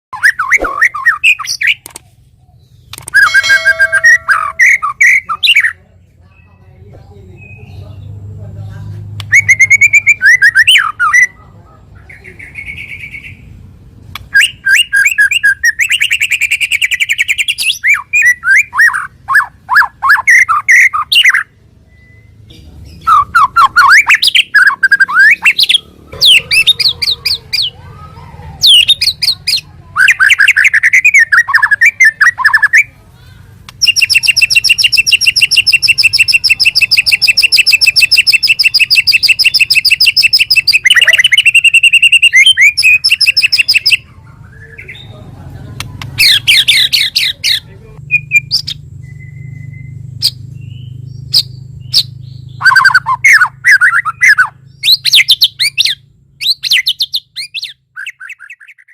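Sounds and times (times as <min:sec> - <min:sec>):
bird singing whistled phrases: 0:00.2 - 0:01.8, 0:02.5 - 0:05.8, 0:07.4 - 0:07.8, 0:09.3 - 0:11.4, 0:14.3 - 0:27.8, 0:28.6 - 0:32.9, 0:33.8 - 0:45.1, 0:46.2 - 0:58.9.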